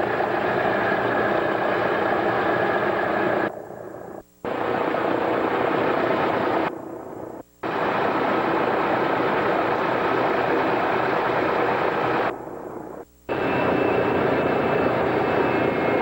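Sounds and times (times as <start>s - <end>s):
piston aircraft engines droning: 0.0s - 16.0s.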